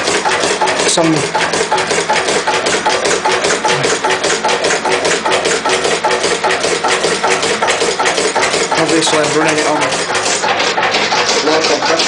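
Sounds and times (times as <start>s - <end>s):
stationary diesel engine running: 0.0s - 12.0s.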